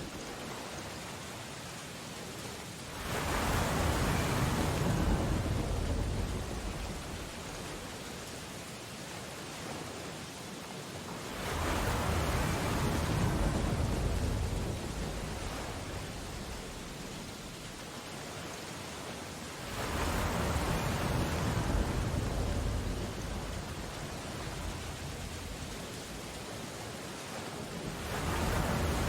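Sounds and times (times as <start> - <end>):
stormy sea: 0.0 - 29.0.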